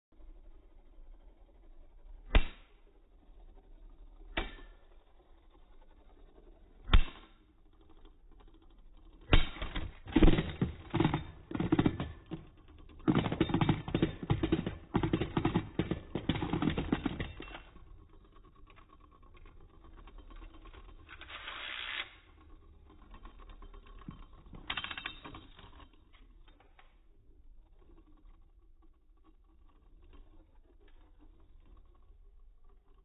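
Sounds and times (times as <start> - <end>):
rapid rattling clatter: 0.1 - 33.0.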